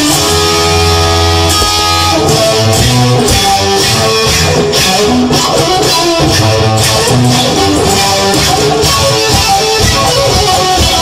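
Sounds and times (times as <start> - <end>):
low bass line: 0.0 - 9.9
guitar song: 0.0 - 11.0
sharp percussive hits: 0.0 - 11.0.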